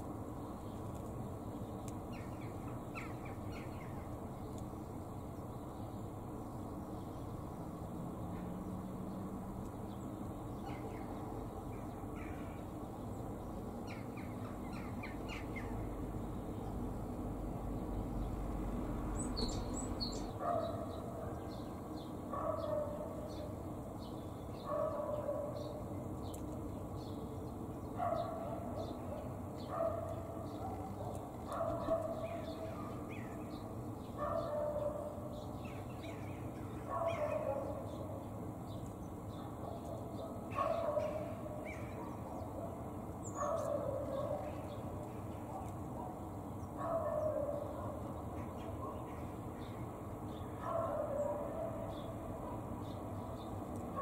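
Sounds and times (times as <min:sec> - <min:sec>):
low background noise: 0:00.0 - 0:54.0
small birds chirping: 0:00.0 - 0:54.0.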